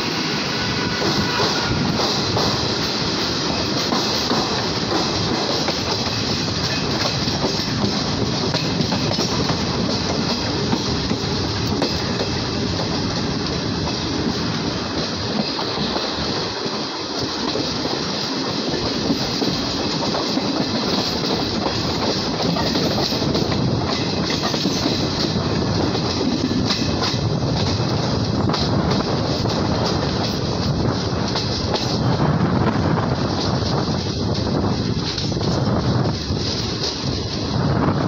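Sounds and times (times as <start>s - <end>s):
train wheels rumbling on rails: 0.0s - 38.0s
wheels clacking over rail joints: 1.1s - 32.2s.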